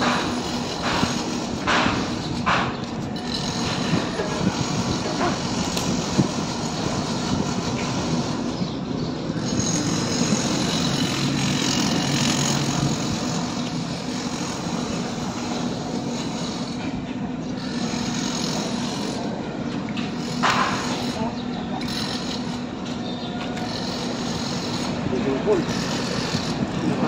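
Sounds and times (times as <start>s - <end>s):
engine and machinery hum: 0.0s - 27.0s.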